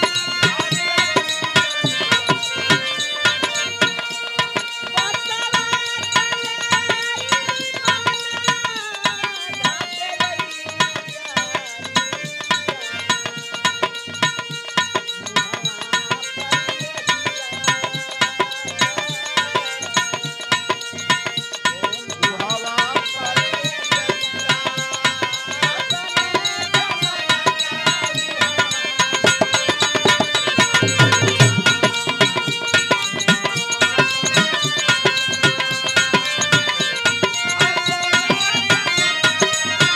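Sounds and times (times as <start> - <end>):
hand drum fast rhythm: 0.0 - 39.9
harmonium melody: 0.0 - 39.9.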